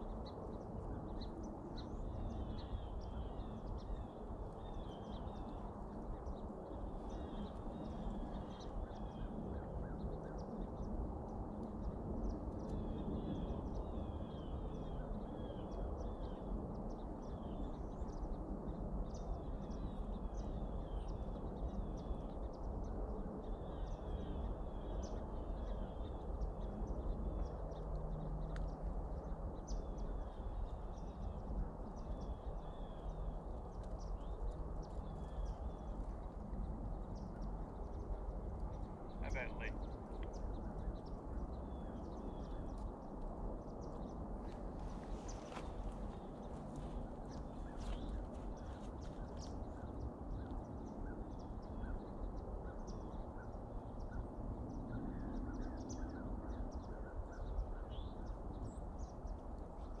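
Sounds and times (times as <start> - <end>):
birds chirping: 0.0 - 11.0, 11.6 - 60.0
low outdoor rumble: 0.0 - 60.0.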